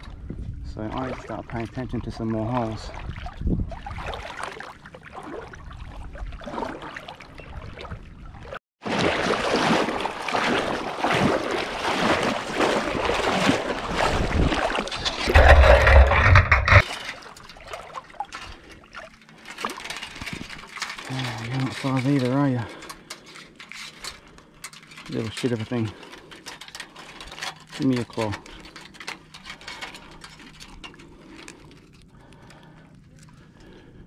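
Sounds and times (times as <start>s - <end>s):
water sloshing and splashing: 0.0s - 34.0s.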